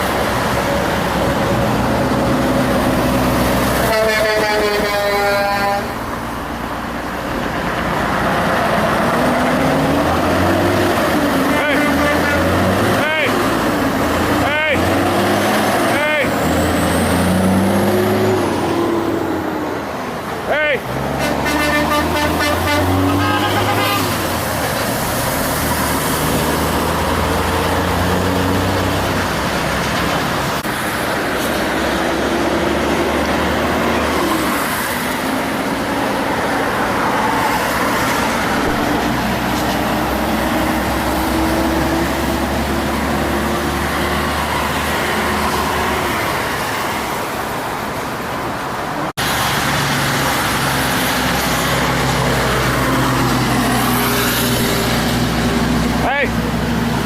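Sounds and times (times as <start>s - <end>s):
diesel trucks passing: 0.0s - 57.0s
road and tyre noise: 0.0s - 57.0s.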